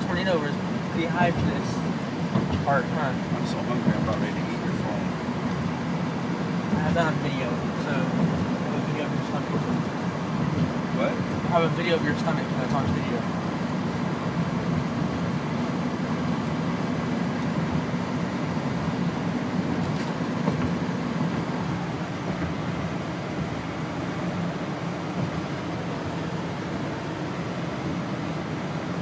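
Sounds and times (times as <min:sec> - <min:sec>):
moving car rumble: 0:00.0 - 0:29.0.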